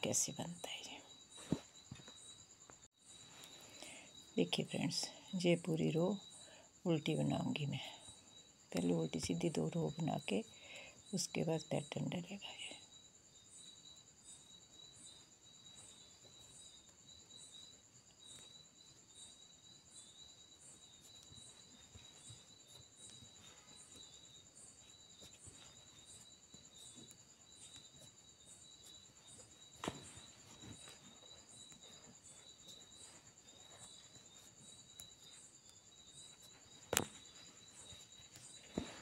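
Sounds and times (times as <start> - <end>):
cricket trill and chirps: 0.0 - 39.0.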